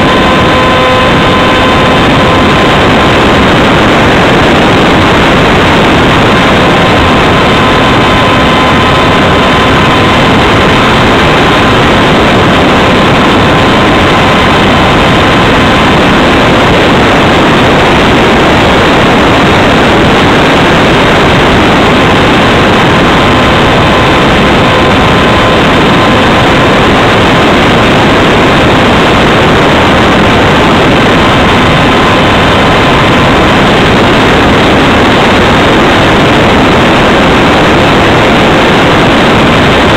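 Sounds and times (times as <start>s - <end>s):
electric motor and propeller whine: 0.0s - 39.9s
wind rushing over microphone: 0.0s - 39.9s.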